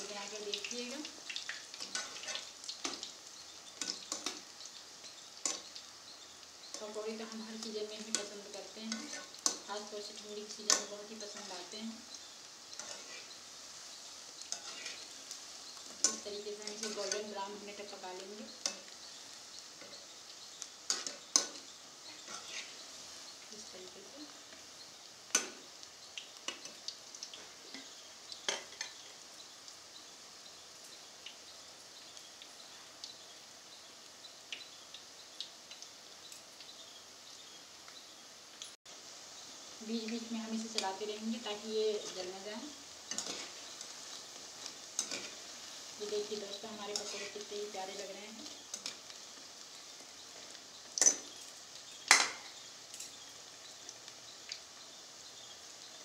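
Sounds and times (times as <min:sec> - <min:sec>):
deep-frying sizzle with pops: 0:00.0 - 0:56.0.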